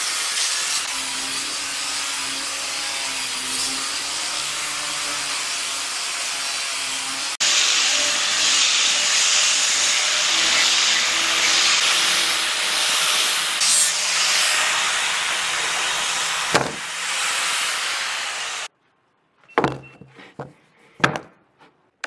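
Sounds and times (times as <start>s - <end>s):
power tool cutting wood: 0.0s - 18.7s.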